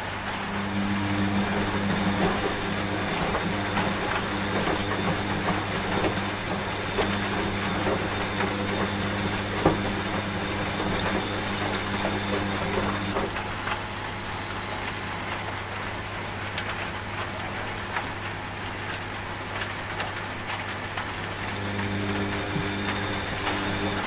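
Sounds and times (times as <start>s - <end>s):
steady rain with drips: 0.0s - 24.0s
washing machine motor hum: 0.0s - 24.0s.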